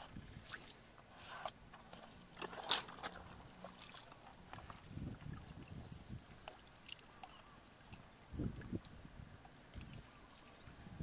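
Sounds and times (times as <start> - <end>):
water splashing and sloshing: 0.0 - 10.9.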